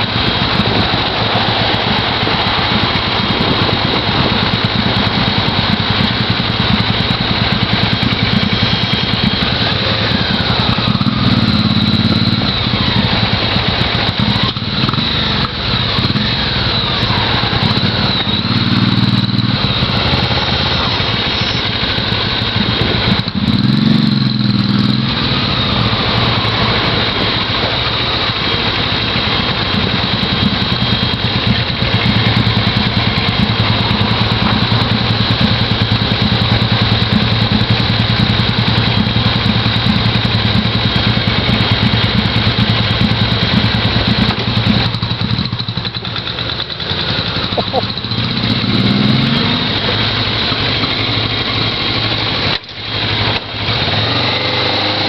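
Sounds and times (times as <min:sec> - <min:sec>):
motorcycle engines idling: 0:00.0 - 0:55.0.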